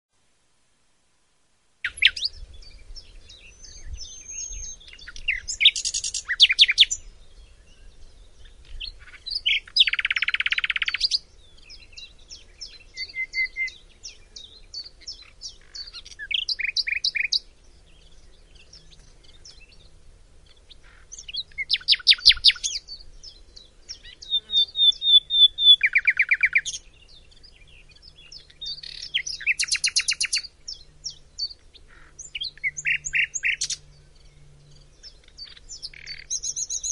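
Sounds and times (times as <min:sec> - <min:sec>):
bird singing varied song: 0:01.8 - 0:36.9.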